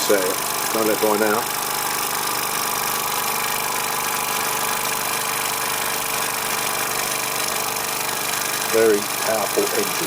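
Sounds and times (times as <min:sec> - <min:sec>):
steam engine hissing: 0:00.0 - 0:10.0.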